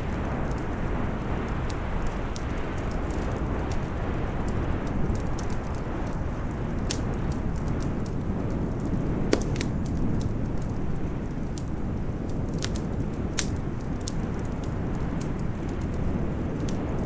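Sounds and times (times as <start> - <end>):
storm wind: 0.0 - 17.0
wood fire crackling: 0.0 - 17.0.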